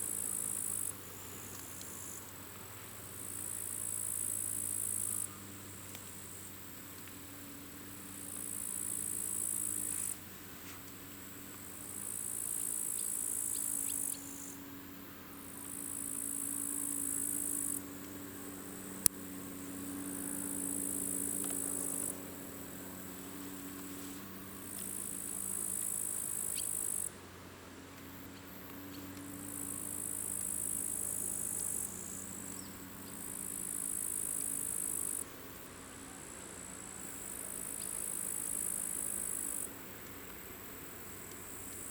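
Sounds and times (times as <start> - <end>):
insect buzzing: 0.0 - 27.2, 28.1 - 39.8.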